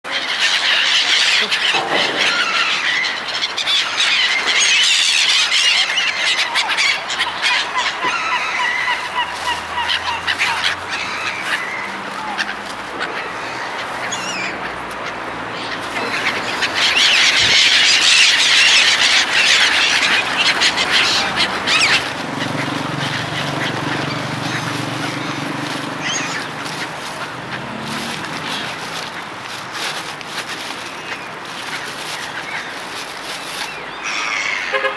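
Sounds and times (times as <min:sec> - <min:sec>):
seagulls calling: 0:00.1 - 0:34.9.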